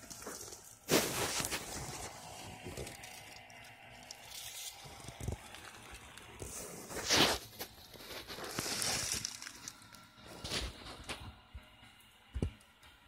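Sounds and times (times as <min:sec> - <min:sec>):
rustling scraping handling: 0:00.0 - 0:11.2.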